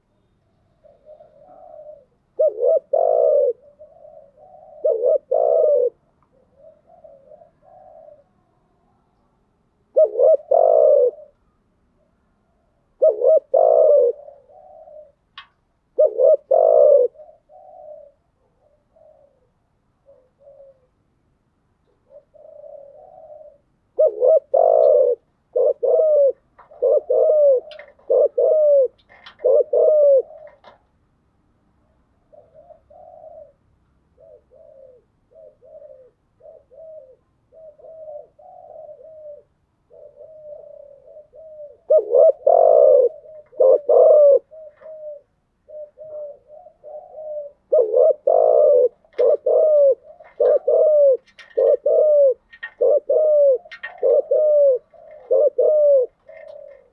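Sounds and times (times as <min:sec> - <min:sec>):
doves cooing: 0:00.7 - 0:09.2, 0:09.8 - 0:21.1, 0:21.8 - 0:31.0, 0:31.8 - 0:56.9.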